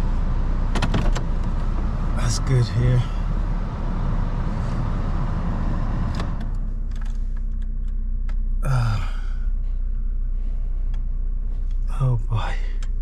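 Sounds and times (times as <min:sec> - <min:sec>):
car engine in snow: 0:00.0 - 0:13.0.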